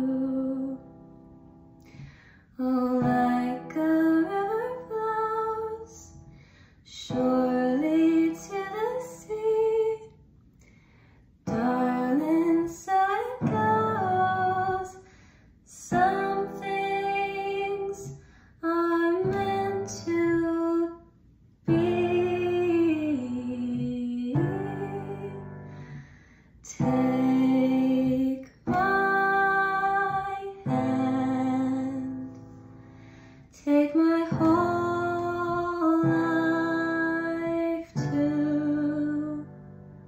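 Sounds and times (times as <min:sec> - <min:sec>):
woman singing slow ballad: 0:00.0 - 0:01.0, 0:02.6 - 0:06.2, 0:06.9 - 0:10.1, 0:11.5 - 0:15.1, 0:15.7 - 0:25.9, 0:26.6 - 0:32.5, 0:33.5 - 0:39.8.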